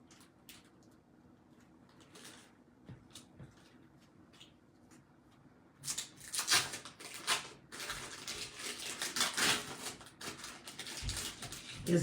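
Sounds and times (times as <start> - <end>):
crackly rustling and scraping: 0.0 - 12.0.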